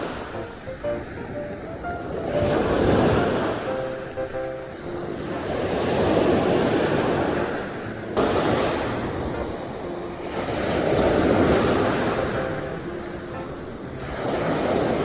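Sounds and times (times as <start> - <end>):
surf waves washing onto beach: 0.0 - 15.0.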